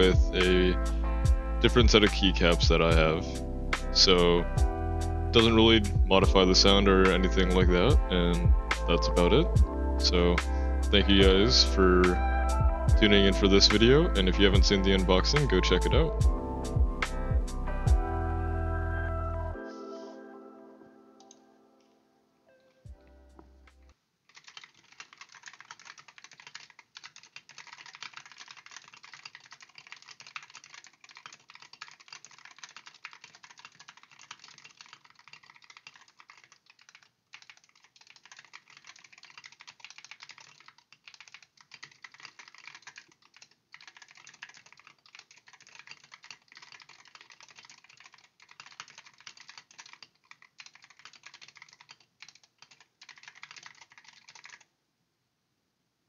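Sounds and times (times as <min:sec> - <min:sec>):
fast keyboard typing: 0:00.0 - 0:04.7, 0:05.4 - 0:18.0, 0:24.3 - 0:54.7.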